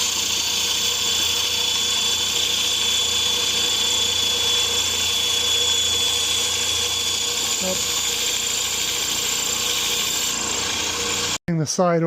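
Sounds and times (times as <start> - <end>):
band saw motor whining: 0.0 - 11.4.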